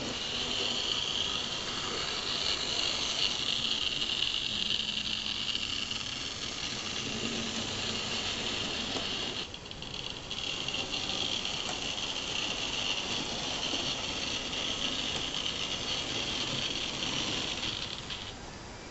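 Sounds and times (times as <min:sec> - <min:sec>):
model train motor whirring: 0:00.0 - 0:18.5.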